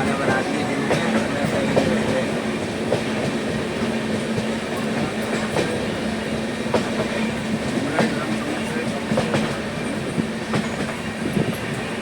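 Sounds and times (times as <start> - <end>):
train rumble and hum: 0.0 - 12.0.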